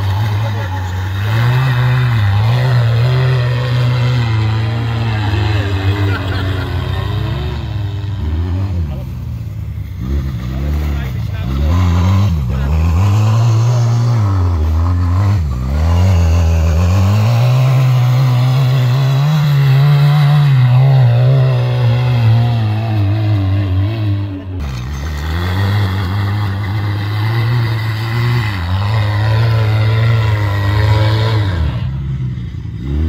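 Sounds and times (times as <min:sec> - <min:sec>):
quad bike engine revving: 0:00.0 - 0:33.0.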